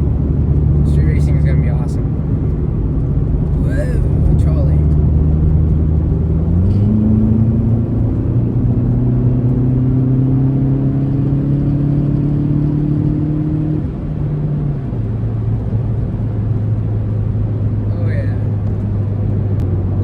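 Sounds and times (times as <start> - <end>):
turbocharged car engine accelerating: 0.0 - 20.0.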